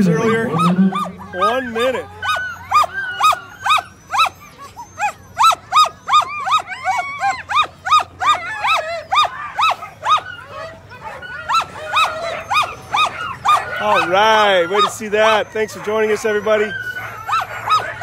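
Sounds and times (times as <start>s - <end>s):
dogs barking and yelping: 0.0s - 18.0s.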